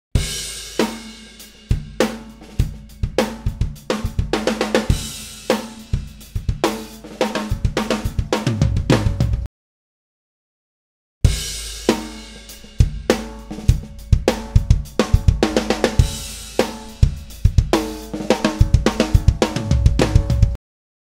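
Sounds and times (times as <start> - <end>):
drum kit groove: 0.2 - 9.5, 11.2 - 20.6.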